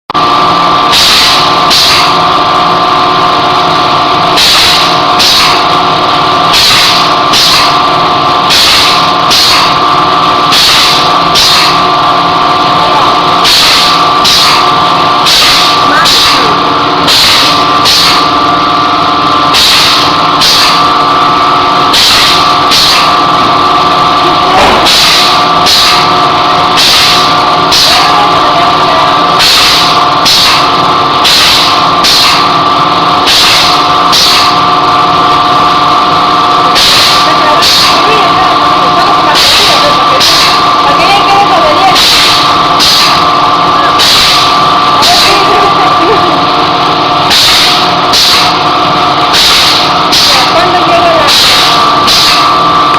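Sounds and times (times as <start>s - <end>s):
bag sealer motor whine: 0.2s - 52.9s.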